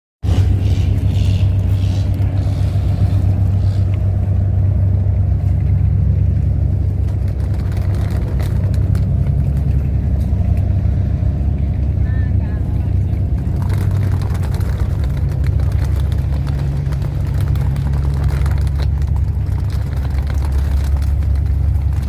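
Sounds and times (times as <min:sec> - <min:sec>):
large engine droning: 0:00.2 - 0:22.0.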